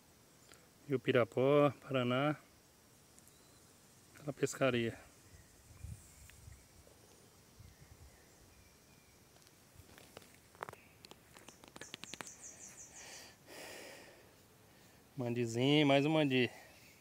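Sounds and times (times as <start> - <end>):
faint riverbank ambience: 3.0 - 17.0.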